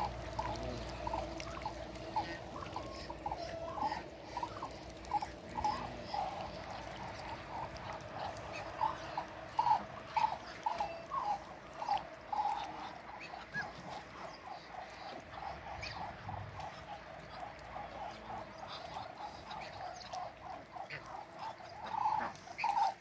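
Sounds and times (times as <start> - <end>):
ducks calling: 0.0 - 23.0
faint steady hum: 0.0 - 23.0.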